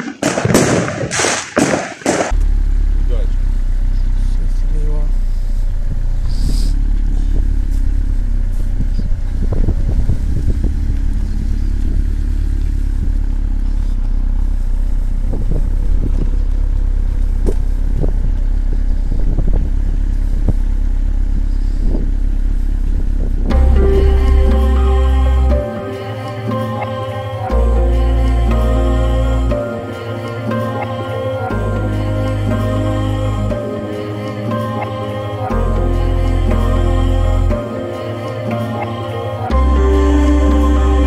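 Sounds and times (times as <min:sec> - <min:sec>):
motorcycle engine rumble: 0:02.3 - 0:41.0.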